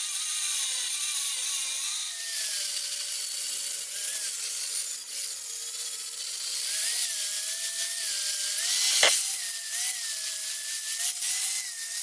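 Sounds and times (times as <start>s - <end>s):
angle grinder on steel: 0.0s - 12.0s.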